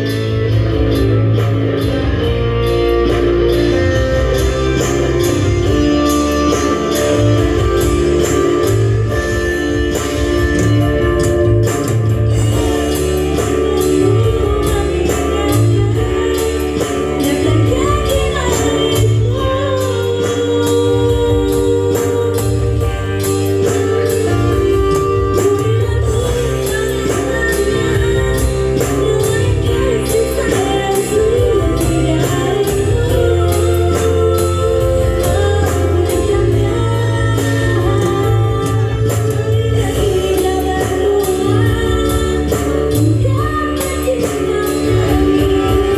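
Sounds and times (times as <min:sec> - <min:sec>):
electronic keyboard organ music: 0:00.0 - 0:45.9
pulsing bass: 0:00.0 - 0:45.9.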